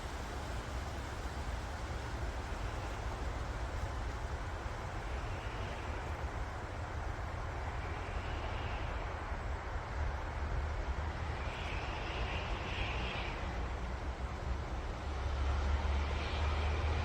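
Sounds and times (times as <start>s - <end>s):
low wind rumble: 0.0s - 17.0s
wind rustling forest leaves: 0.0s - 17.0s.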